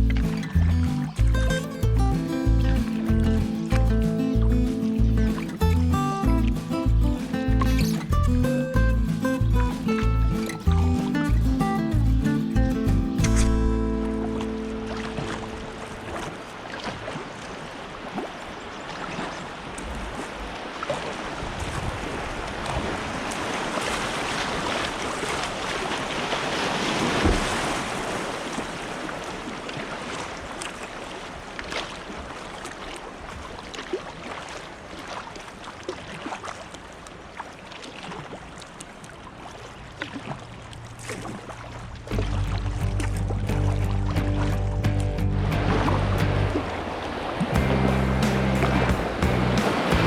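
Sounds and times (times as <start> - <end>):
paddle splashes and drips: 0.0 - 8.2, 8.8 - 50.0
river water rushing: 0.0 - 50.0.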